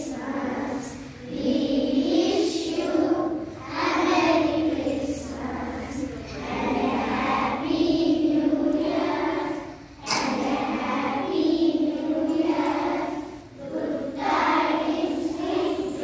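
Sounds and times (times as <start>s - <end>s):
children singing in chorus: 0.0s - 16.0s.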